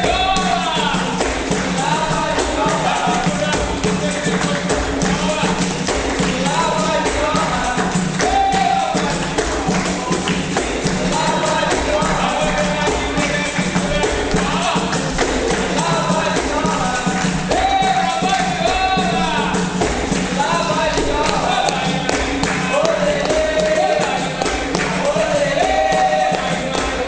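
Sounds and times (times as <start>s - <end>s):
percussion rhythm: 0.0s - 27.0s
person singing: 0.0s - 27.0s.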